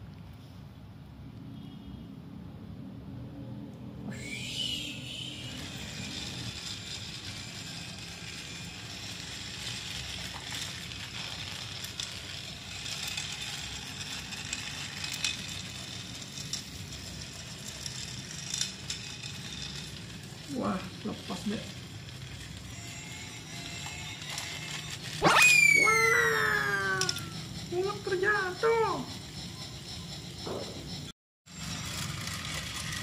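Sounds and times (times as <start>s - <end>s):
toy train motor whir: 4.1s - 33.0s.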